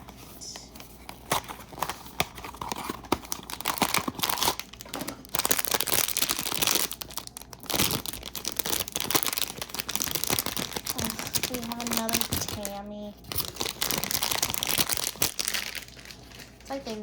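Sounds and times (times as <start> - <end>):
packaging tearing and crinkling: 0.9 - 17.0.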